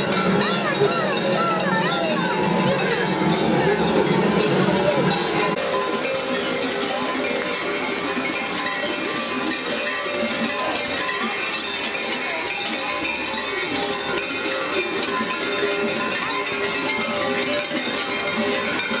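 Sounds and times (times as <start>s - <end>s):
bells clanging: 0.0s - 19.0s.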